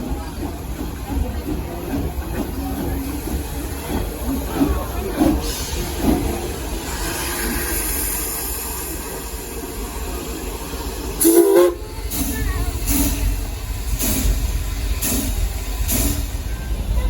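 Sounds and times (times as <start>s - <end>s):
train coaches rumbling: 0.0s - 17.0s
steam hissing: 0.6s - 17.0s.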